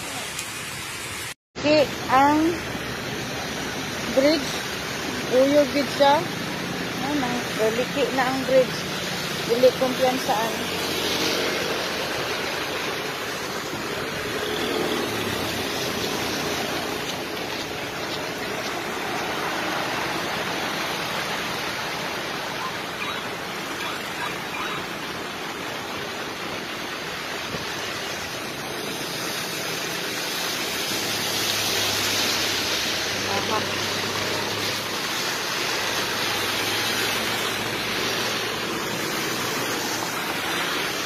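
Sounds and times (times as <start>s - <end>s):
heavy rain on wet road: 0.0s - 41.0s.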